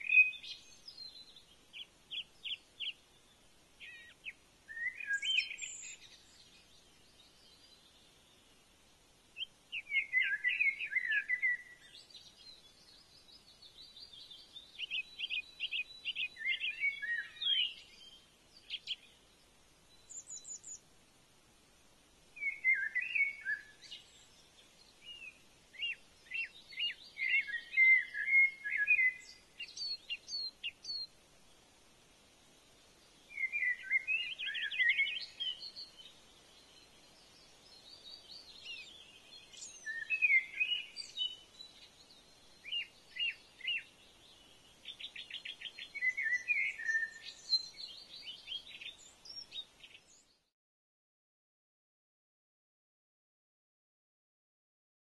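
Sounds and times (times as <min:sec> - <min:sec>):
faint steady hiss: 0:00.0 - 0:50.5
songbirds singing: 0:00.0 - 0:50.5.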